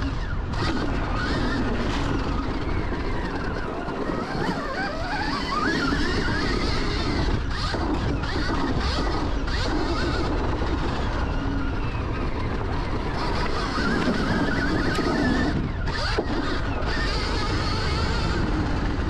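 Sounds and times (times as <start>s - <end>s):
electric motor whining: 0.0s - 19.0s
steady rushing noise: 0.0s - 19.0s.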